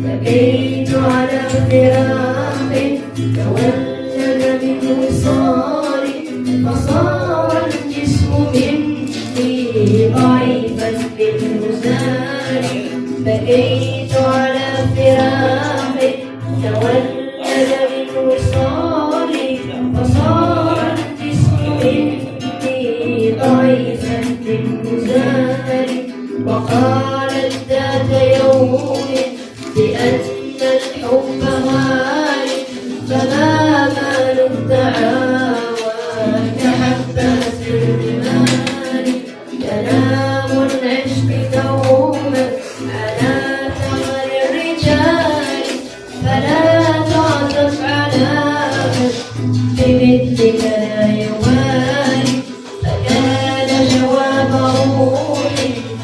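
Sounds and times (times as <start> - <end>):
person singing: 0.0 - 56.0
plucked strings: 0.0 - 56.0.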